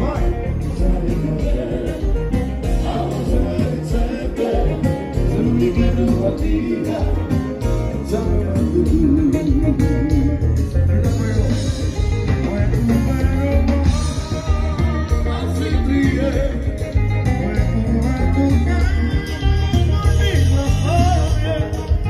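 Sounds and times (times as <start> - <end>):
live band music: 0.0 - 22.0
person singing: 0.0 - 22.0.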